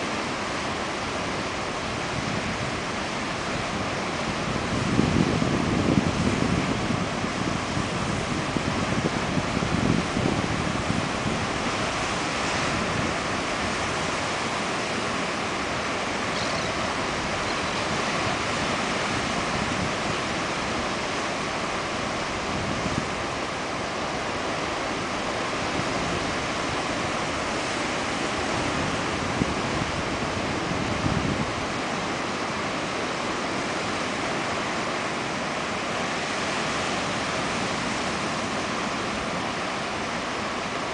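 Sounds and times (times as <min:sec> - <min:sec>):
surf washing around rocks: 0:00.0 - 0:40.9.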